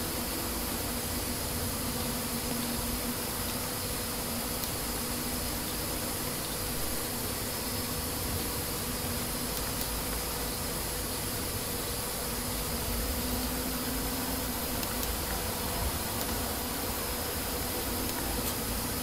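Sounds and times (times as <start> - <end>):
faint electrical hum: 0.0 - 19.0
microphone hiss: 0.0 - 19.0.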